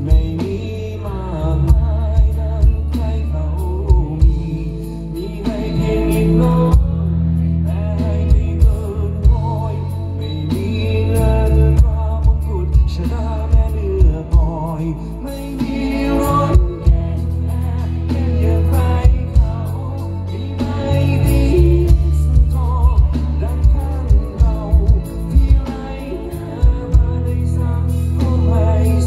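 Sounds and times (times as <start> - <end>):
bass guitar: 0.0 - 29.0
drum beats: 0.0 - 29.0
electric guitar: 0.0 - 29.0
man singing: 0.0 - 29.0.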